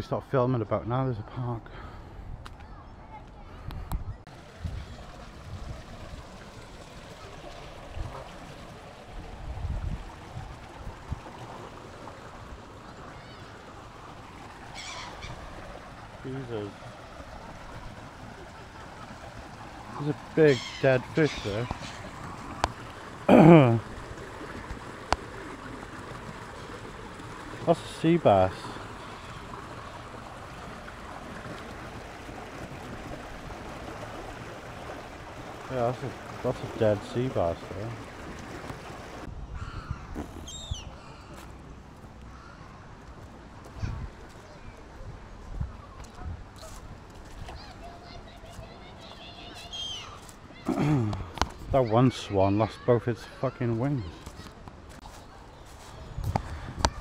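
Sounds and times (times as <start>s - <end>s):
water rushing into pond: 4.3s - 42.5s, 46.6s - 54.5s.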